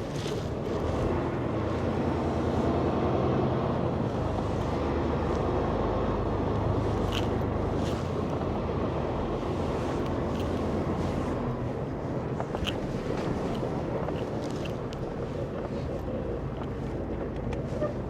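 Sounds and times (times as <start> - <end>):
truck engine low rumble: 0.0 - 18.0.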